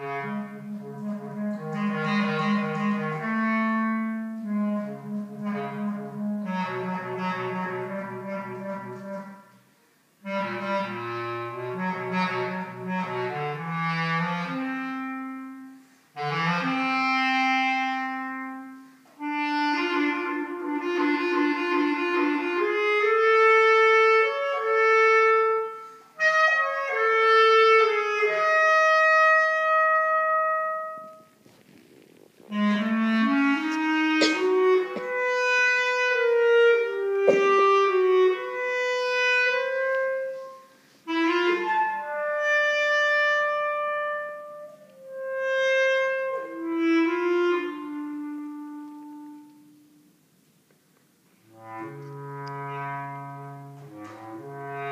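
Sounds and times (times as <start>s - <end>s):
solo bass clarinet: 0.0s - 50.3s, 51.3s - 54.9s.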